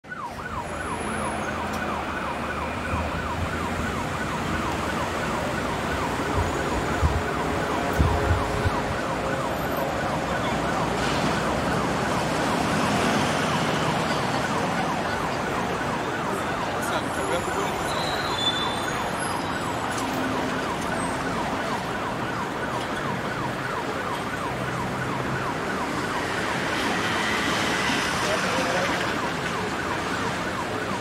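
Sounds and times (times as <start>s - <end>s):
siren yelping: 0.0s - 31.0s.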